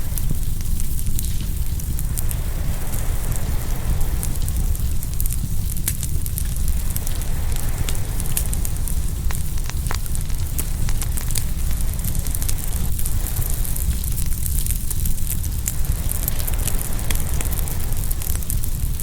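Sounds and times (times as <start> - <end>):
ocean waves breaking: 0.0 - 19.0
wood fire crackling: 0.0 - 19.0.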